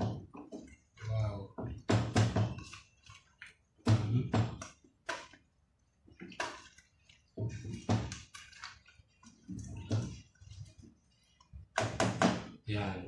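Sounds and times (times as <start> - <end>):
spatula stirring wet food in a pot: 0.0 - 12.7.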